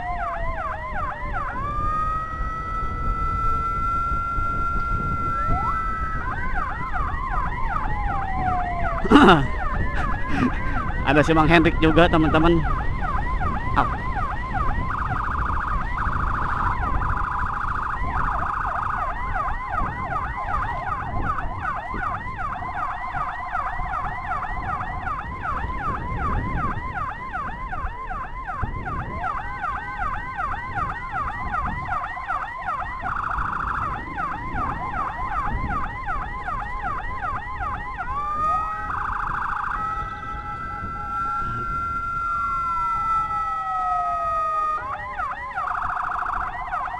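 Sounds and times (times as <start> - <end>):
electronic siren yelping: 0.0 - 46.9
motorcycle engine and road noise: 0.0 - 46.9.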